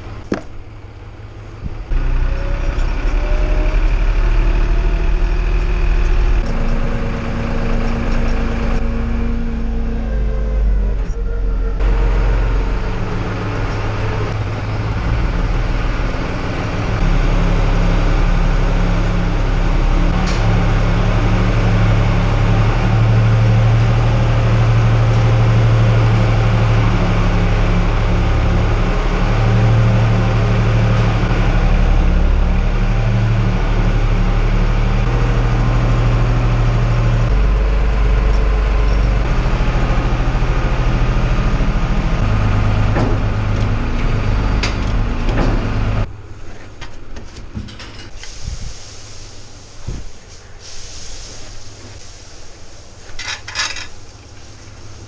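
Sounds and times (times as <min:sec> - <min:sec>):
tractor engine running under load: 0:00.0 - 0:47.2.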